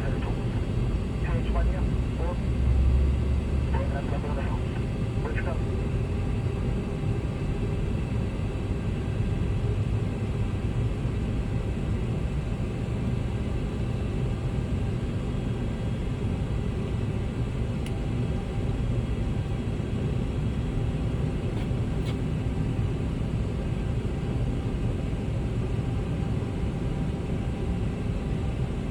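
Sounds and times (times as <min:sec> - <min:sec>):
aircraft low rumble: 0:00.0 - 0:28.9.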